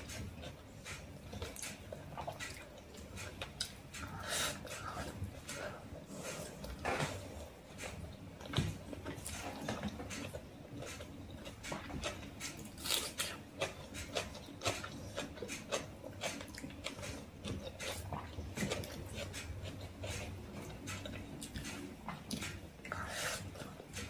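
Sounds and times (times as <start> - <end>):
wet chewing: 0.0 - 24.0.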